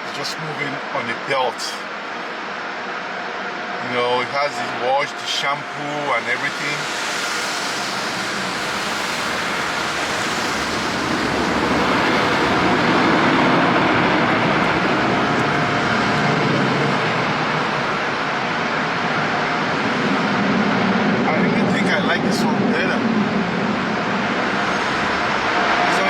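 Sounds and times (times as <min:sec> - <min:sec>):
car wash rushing noise: 0:00.0 - 0:26.0.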